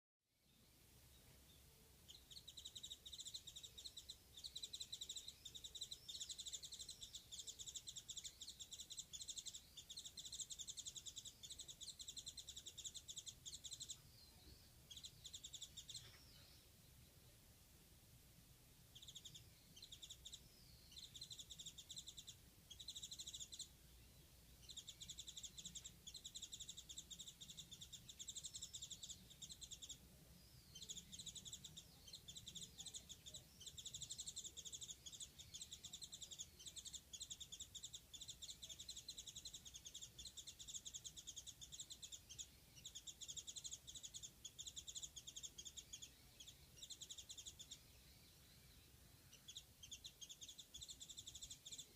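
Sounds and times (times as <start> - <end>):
bird twittering song: 0.4 - 17.9, 18.8 - 51.9.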